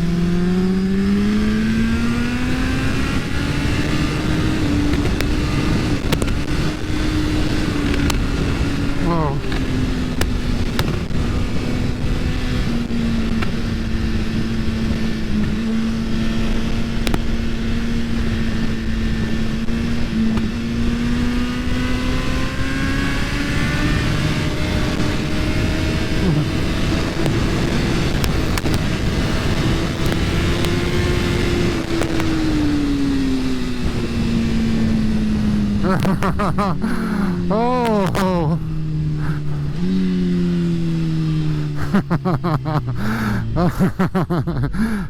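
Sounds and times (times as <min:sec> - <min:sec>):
motorcycle engine at speed: 0:00.0 - 0:45.0
heavy wind noise: 0:00.7 - 0:40.0.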